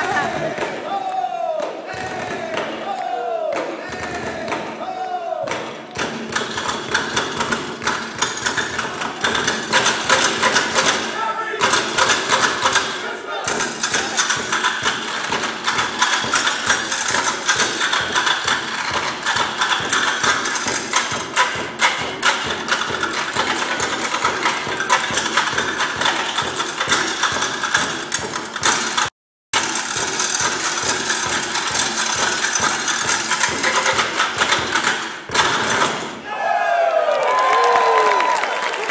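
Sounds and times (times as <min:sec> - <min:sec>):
drumsticks striking stepladders: 0:00.0 - 0:36.2.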